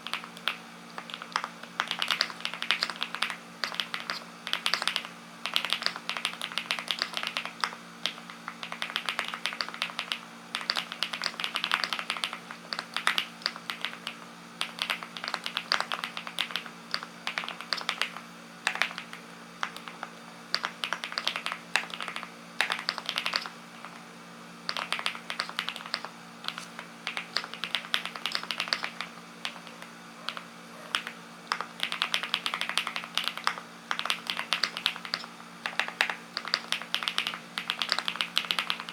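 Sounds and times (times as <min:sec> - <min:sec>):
mechanical keyboard typing: 0:00.0 - 0:24.0, 0:24.7 - 0:38.9.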